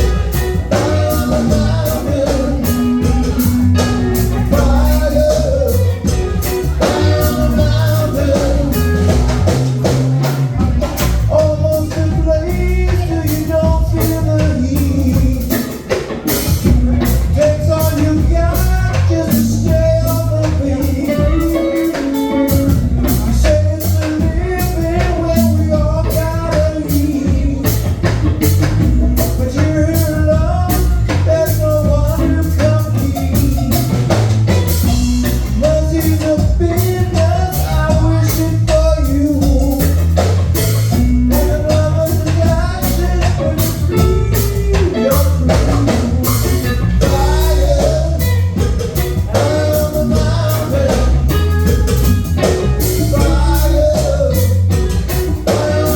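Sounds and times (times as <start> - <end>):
drum kit beat: 0.0 - 55.9
live band playing: 0.0 - 55.9.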